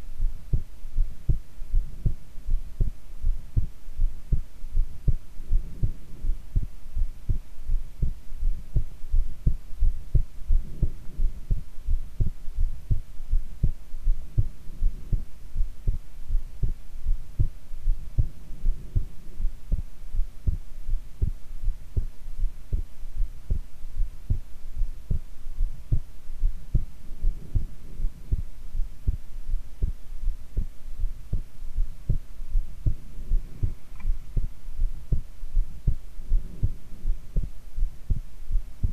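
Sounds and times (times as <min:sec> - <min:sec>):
faint steady hum: 0:00.0 - 0:38.9
heartbeat thumps: 0:00.2 - 0:38.9.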